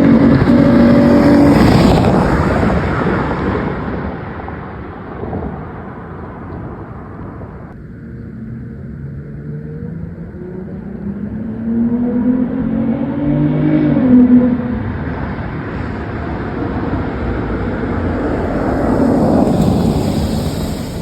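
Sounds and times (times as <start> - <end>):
car engine accelerating: 0.0 - 4.2, 8.2 - 21.0.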